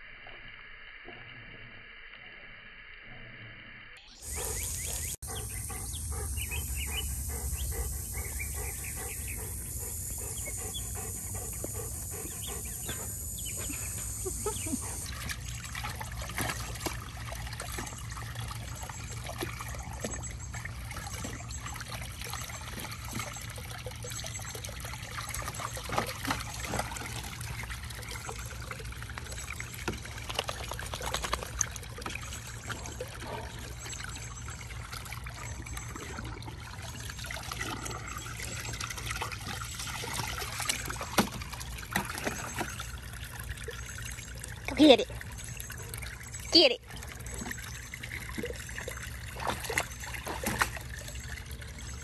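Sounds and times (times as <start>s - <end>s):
dog splashing water: 4.2s - 52.0s
hose water trickling into pool: 4.2s - 52.0s.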